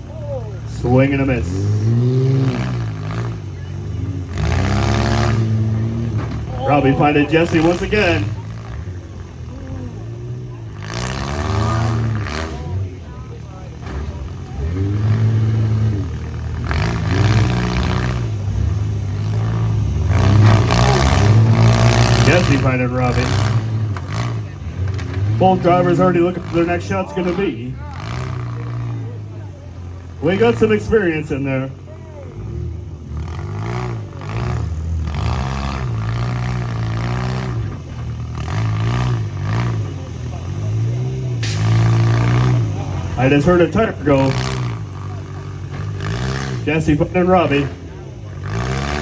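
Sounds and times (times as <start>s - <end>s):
van engines revving: 0.0s - 49.0s.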